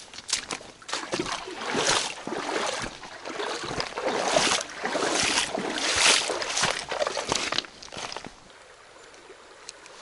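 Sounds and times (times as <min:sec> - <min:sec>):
footsteps over stones: 0:00.0 - 0:08.5
grass and brush rustling: 0:00.0 - 0:08.5.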